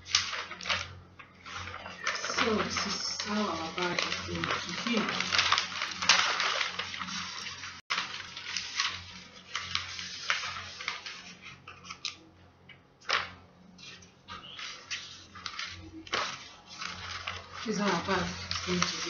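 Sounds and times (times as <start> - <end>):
paper rustling and crinkling: 0.0 - 12.3, 13.0 - 19.0.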